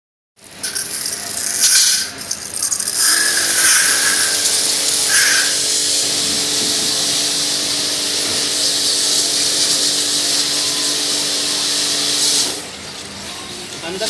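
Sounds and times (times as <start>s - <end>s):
pressure washer spraying water: 0.6s - 12.7s.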